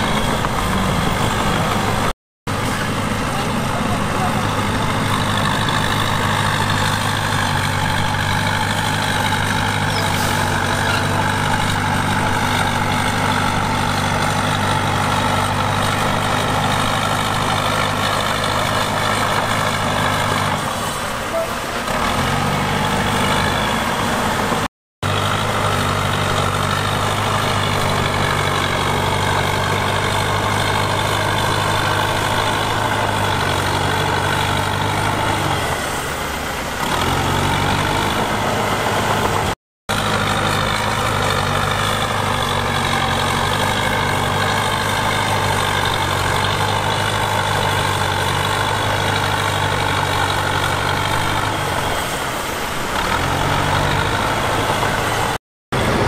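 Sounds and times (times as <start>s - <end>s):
heavy machine diesel engine running: 0.0s - 56.0s.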